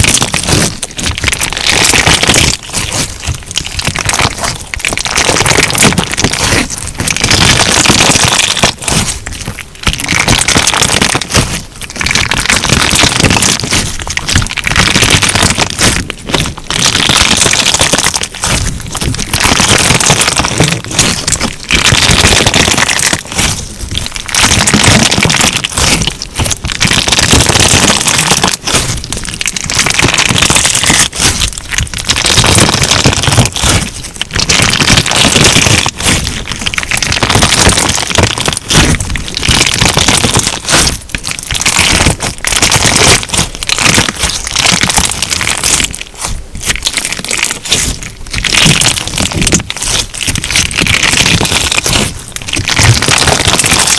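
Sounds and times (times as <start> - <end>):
crunchy slime squeezed by hand: 0.0 - 53.9.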